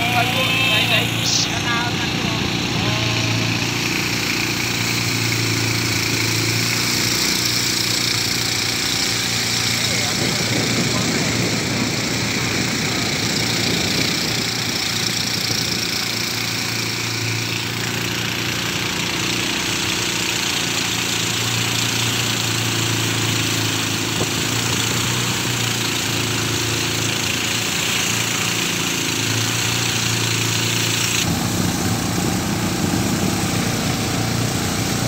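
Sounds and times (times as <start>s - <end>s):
motorboat engine running: 0.0s - 35.0s
wind: 0.0s - 35.0s
water hiss: 2.4s - 35.0s.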